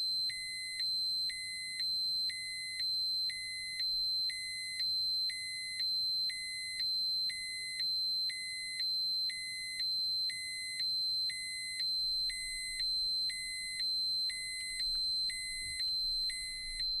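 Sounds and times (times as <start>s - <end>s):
pulsing two-tone alarm beep: 0.1s - 17.0s.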